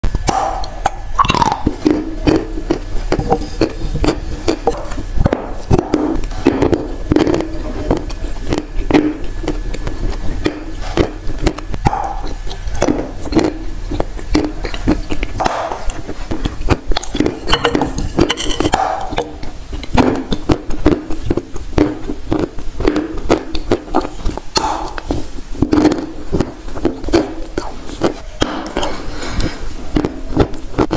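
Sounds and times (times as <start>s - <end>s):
crunchy clay being chewed: 0.0s - 30.9s
mouth sounds: 0.0s - 30.9s.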